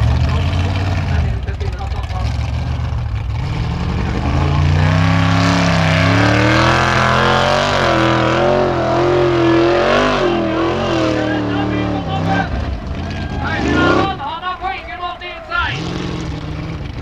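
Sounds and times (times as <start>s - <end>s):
buggy engine revving hard: 0.0s - 17.0s.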